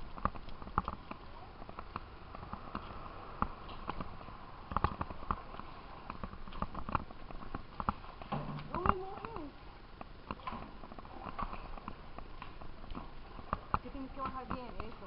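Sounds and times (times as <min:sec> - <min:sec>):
paddles knocking on canoe: 0:00.0 - 0:15.0.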